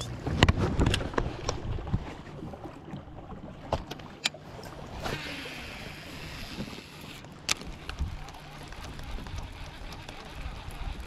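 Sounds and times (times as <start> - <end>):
water sounds: 0.0 - 11.0.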